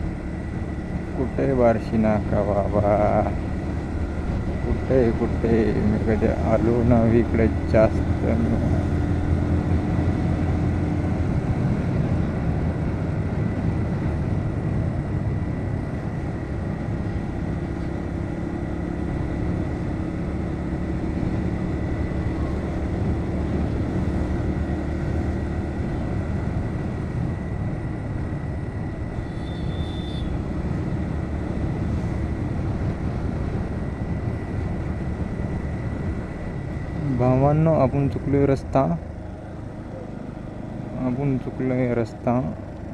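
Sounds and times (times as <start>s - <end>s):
motorcycle engine running: 0.0s - 13.3s, 13.9s - 42.9s
wind and road noise: 0.0s - 42.9s.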